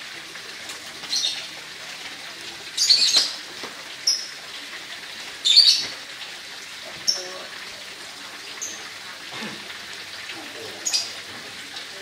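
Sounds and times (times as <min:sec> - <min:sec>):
broth bubbling in a wok: 0:00.0 - 0:12.0.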